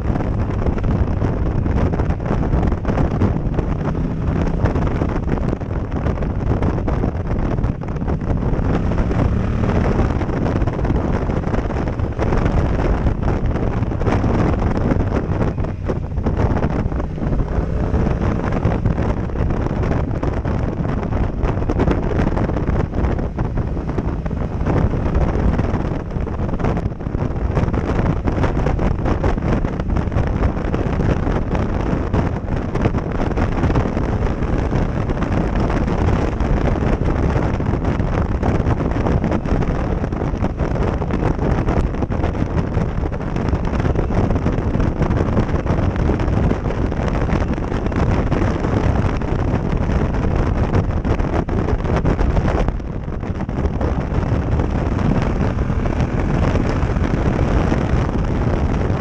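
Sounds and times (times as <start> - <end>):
motorcycle engine: 0.0 - 59.0
wind buffeting microphone: 0.0 - 59.0.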